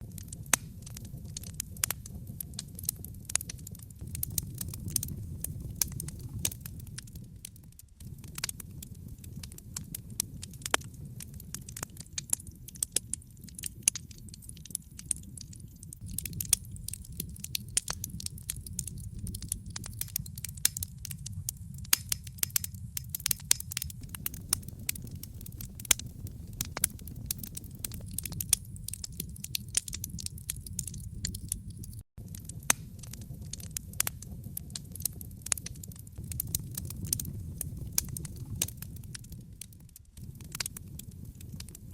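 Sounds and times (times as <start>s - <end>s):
fire crackling and popping: 0.0s - 41.9s
low rumble of flames: 0.0s - 41.9s.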